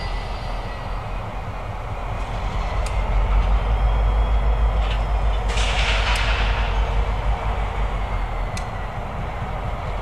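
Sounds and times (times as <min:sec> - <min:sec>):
diesel locomotive engines rumbling: 0:00.0 - 0:10.0.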